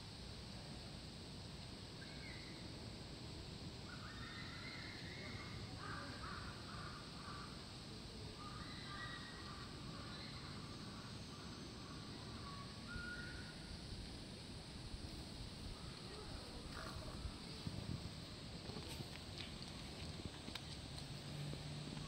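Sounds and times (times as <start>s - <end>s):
faint background hum: 0.0s - 22.0s.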